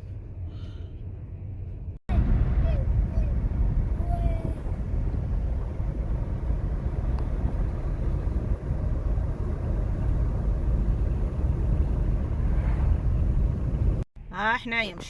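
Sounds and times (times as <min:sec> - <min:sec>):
car driving road rumble: 0:00.0 - 0:15.0.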